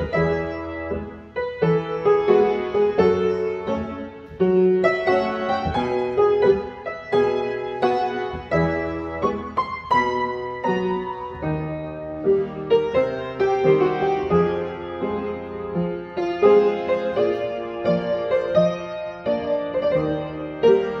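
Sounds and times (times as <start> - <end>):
upright piano playing: 0.0 - 21.0.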